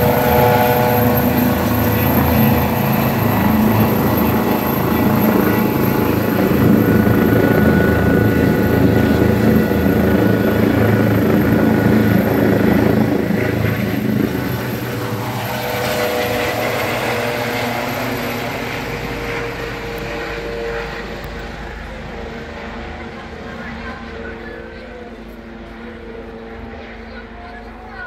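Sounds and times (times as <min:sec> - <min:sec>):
helicopter flying overhead: 0:00.0 - 0:28.0.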